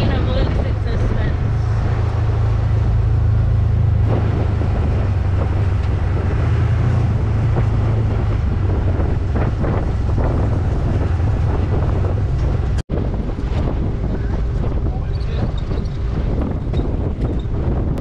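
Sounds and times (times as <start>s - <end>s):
engine running: 0.0s - 18.0s
wind noise on microphone: 0.0s - 18.0s.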